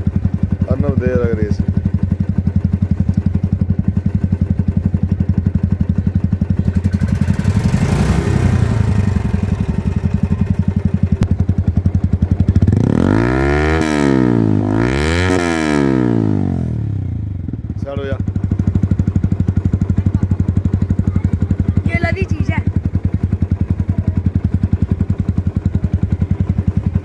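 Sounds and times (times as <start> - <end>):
motorcycle engine idling: 0.0 - 27.0
motorcycle engine revving: 0.0 - 27.0.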